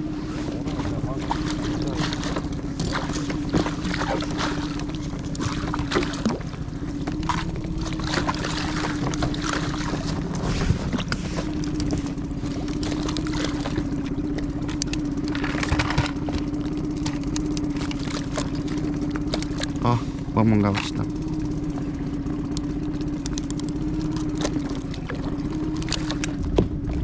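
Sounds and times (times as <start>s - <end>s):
boat engine humming: 0.0s - 27.0s
water splashing against boat: 0.0s - 27.0s.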